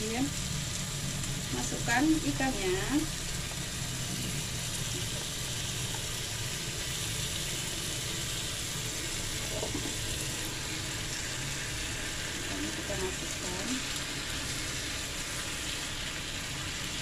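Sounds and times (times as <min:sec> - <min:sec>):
paste sizzling in oil: 0:00.0 - 0:17.0.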